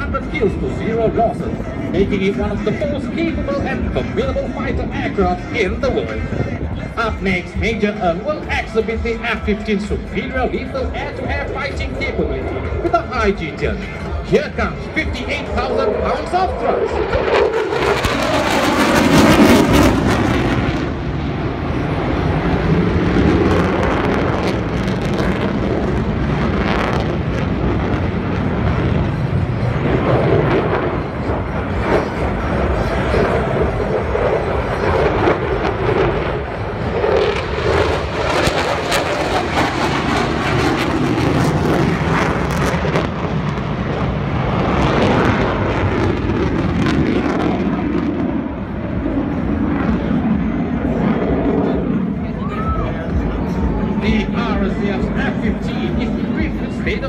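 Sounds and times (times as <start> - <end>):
fighter jet engine roar: 0.0 - 57.0.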